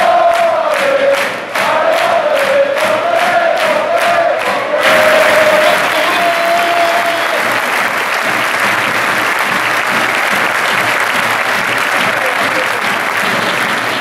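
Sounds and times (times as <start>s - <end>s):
stadium crowd applauding: 0.0s - 14.0s.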